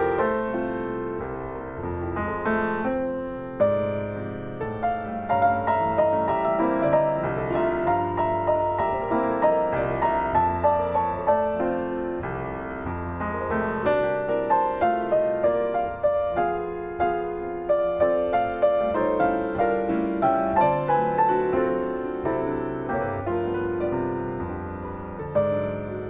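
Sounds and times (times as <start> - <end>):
gentle solo piano: 0.0 - 26.0.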